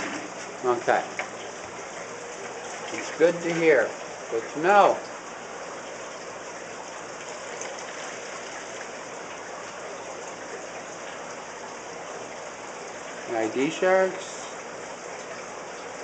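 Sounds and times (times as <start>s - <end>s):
running water rushing and splashing: 0.0s - 16.0s.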